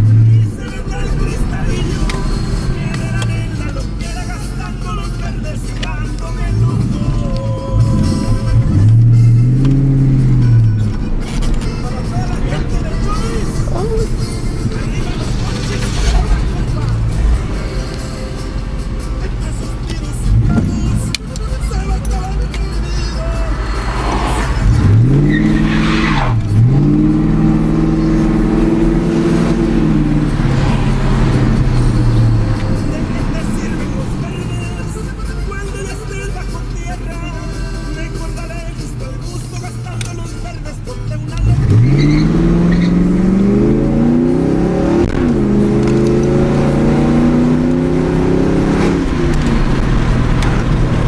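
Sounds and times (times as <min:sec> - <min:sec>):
car engine accelerating hard: 0:00.0 - 0:51.0.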